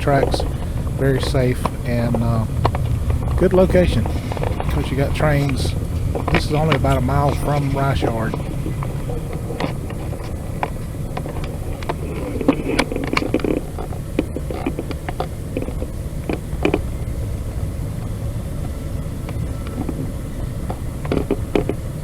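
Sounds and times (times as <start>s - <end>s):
freight train rumble: 0.0s - 22.0s
wheels and couplings clanking: 0.0s - 22.0s.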